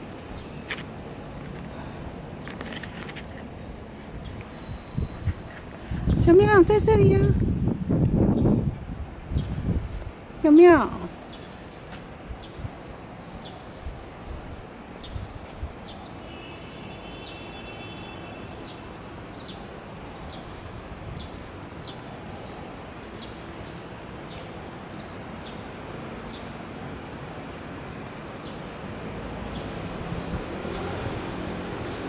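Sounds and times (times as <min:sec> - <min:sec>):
distant traffic rumble: 0:00.0 - 0:32.0
small birds chirping: 0:00.2 - 0:07.5, 0:09.3 - 0:26.6, 0:27.9 - 0:31.0.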